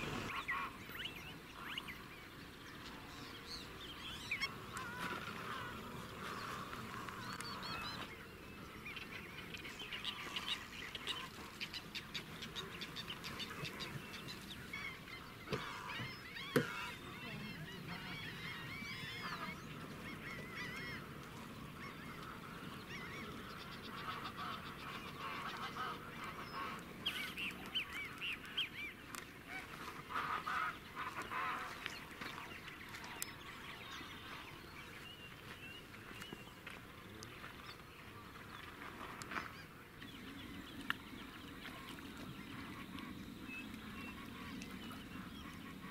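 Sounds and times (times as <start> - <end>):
wild birds chirping and honking: 0.0 - 45.9.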